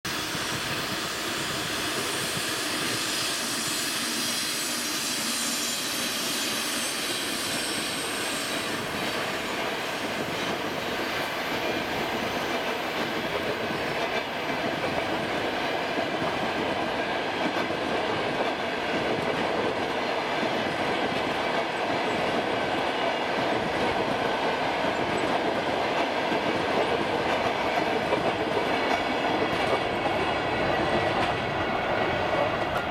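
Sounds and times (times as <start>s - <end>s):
electric locomotive whine: 0.1s - 32.9s.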